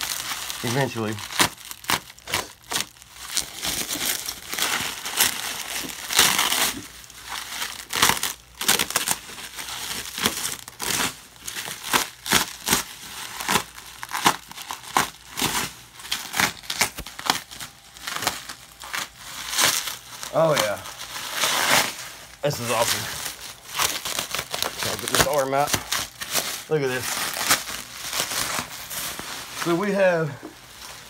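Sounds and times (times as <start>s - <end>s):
bubble wrap crinkling and crackling: 0.0s - 31.0s.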